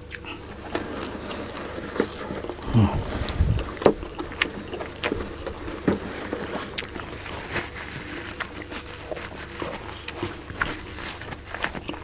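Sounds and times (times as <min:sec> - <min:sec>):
chewing with wet smacks: 0:00.0 - 0:12.0
steady low hum: 0:00.0 - 0:12.0.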